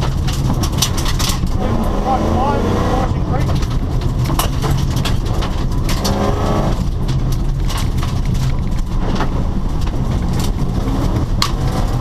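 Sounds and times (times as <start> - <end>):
sharp cracks and clatter: 0.0 - 2.0, 3.0 - 12.0
rally car engine running: 0.0 - 12.0.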